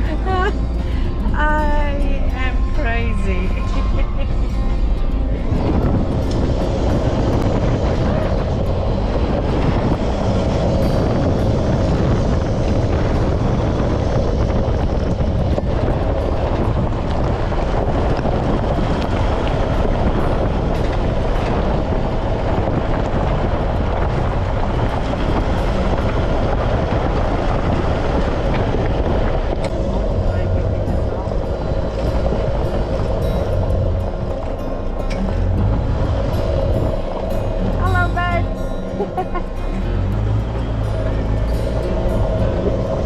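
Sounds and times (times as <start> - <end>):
vehicle engine drone: 0.0 - 43.0.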